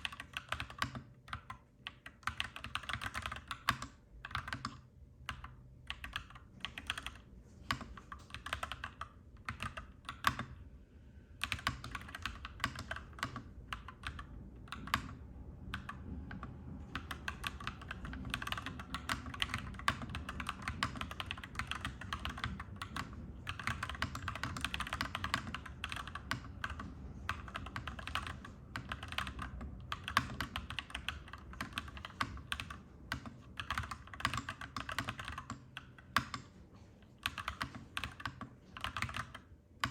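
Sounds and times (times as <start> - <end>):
mechanical keyboard typing: 0.0 - 10.6, 11.4 - 36.5, 37.2 - 39.9
steady low hum: 0.0 - 39.9.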